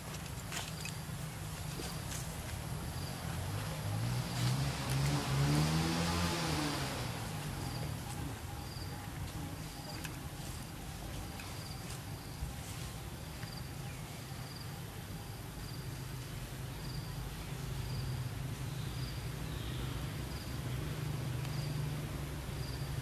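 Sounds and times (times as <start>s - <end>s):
insect chirping: 0.0s - 23.0s.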